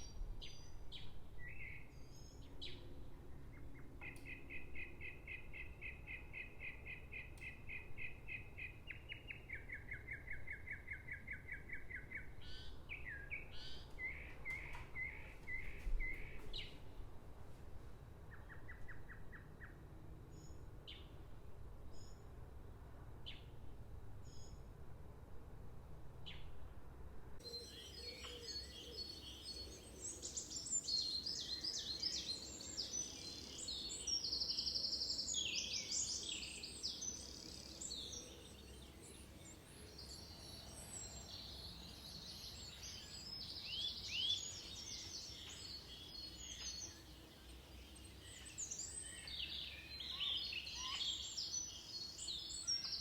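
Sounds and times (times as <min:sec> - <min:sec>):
songbirds singing and chirping: 0:00.0 - 0:17.2, 0:17.9 - 0:21.2, 0:27.4 - 0:53.0.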